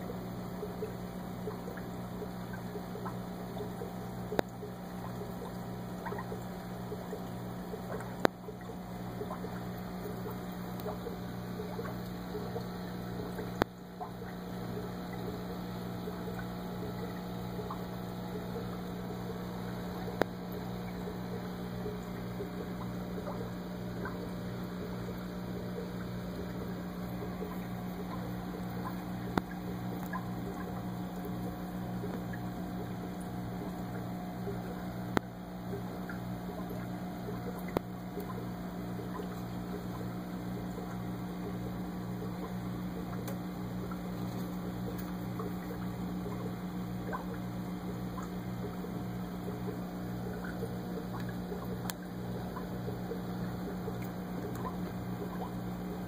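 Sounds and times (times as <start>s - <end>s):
aquarium air pump hum: 0.0s - 56.0s
bubbles fizzing: 0.0s - 56.0s.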